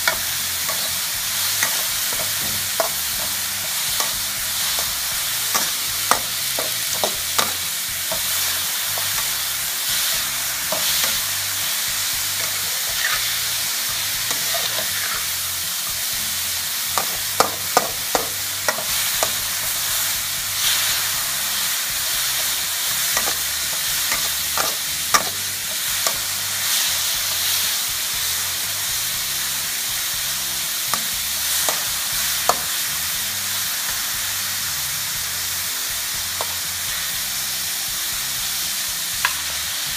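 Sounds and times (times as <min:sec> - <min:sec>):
metal spatula scraping wok: 0:00.0 - 0:37.6
food sizzling in oil: 0:00.0 - 0:39.9.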